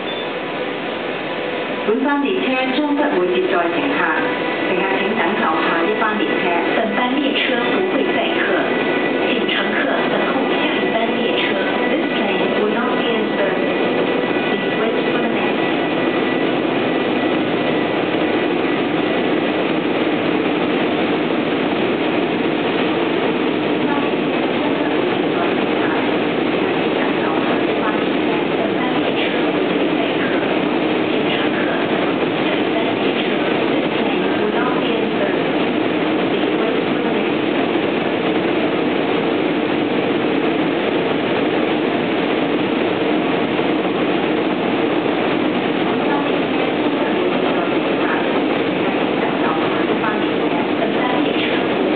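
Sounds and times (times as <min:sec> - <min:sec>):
train passing through: 0:00.0 - 0:51.9.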